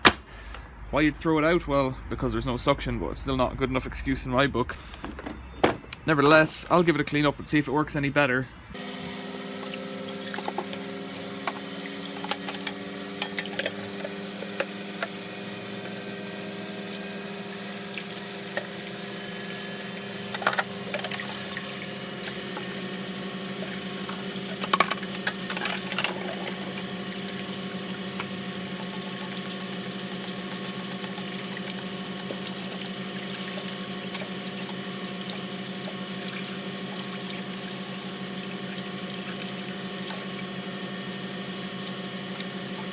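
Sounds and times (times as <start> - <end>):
electric motor hum and whine: 8.5 - 42.9.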